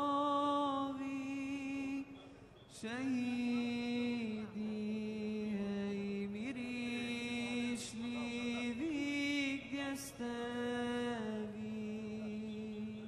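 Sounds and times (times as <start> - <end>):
solo voice chanting: 0.0 - 13.0.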